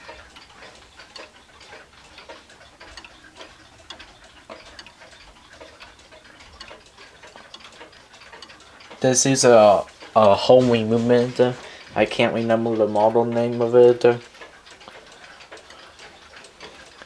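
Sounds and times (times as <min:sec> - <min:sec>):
grandfather clock ticking: 0:00.0 - 0:17.0.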